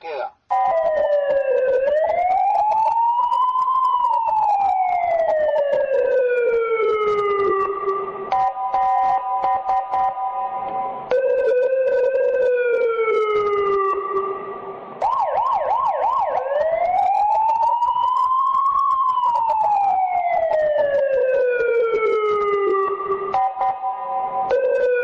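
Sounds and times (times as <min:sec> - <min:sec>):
police siren: 0:00.5 - 0:25.0.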